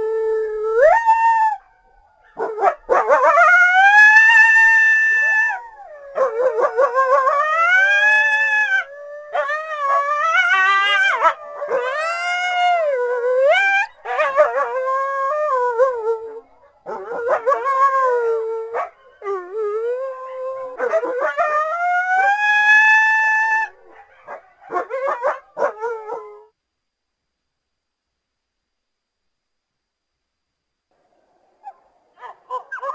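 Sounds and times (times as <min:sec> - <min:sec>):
coyotes howling: 0:00.0 - 0:26.5.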